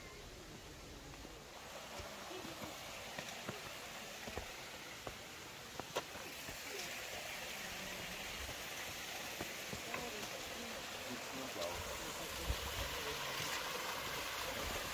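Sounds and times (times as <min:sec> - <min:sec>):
stream running: 0:00.0 - 0:14.9
footsteps on stone path: 0:01.0 - 0:13.8.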